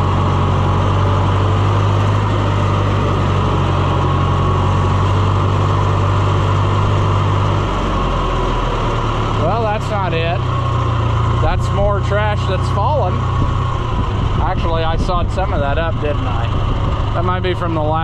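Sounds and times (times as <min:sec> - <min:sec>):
farm vehicle engine running: 0:00.0 - 0:18.0.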